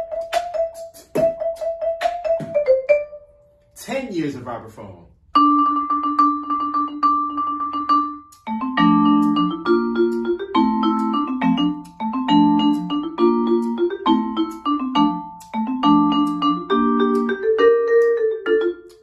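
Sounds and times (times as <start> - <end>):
vibraphone chords and runs: 0.0 - 3.5, 5.4 - 19.0.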